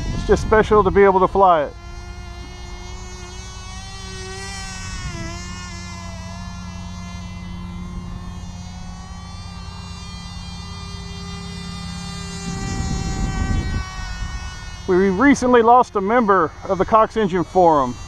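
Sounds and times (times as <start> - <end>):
model plane engine buzzing: 0.0 - 18.0.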